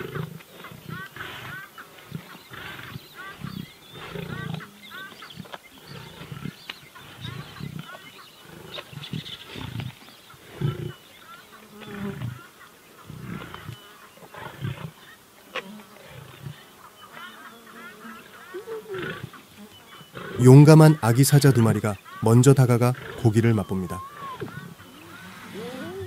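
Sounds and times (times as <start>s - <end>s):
lions growling and grunting: 0.0s - 17.1s, 18.2s - 26.0s.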